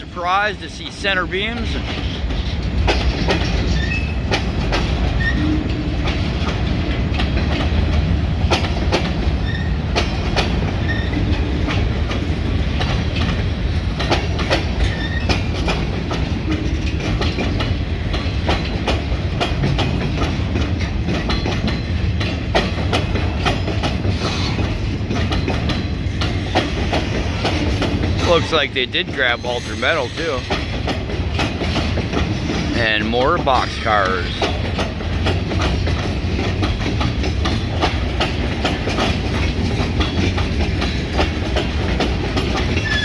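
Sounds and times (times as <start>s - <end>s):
train wheels rumbling on rail: 0.0s - 43.0s
wheels clanking over rail joints: 0.3s - 43.0s.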